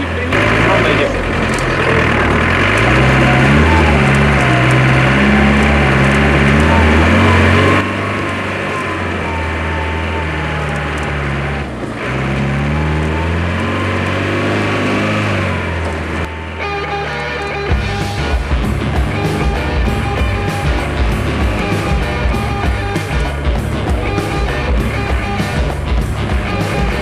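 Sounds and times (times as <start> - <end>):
engine revving under load: 0.0 - 27.0.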